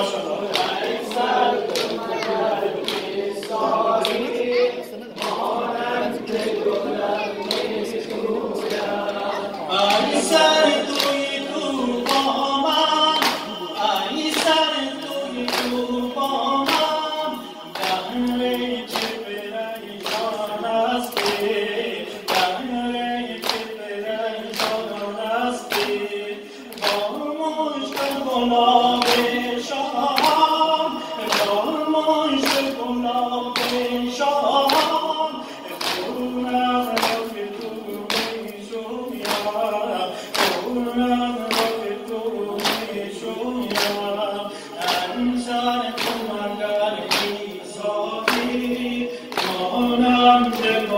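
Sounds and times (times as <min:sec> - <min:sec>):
congregation voices joining in: 0:00.0 - 0:50.9
man chanting over microphone: 0:00.0 - 0:50.9
rhythmic chest-beating: 0:00.0 - 0:50.9.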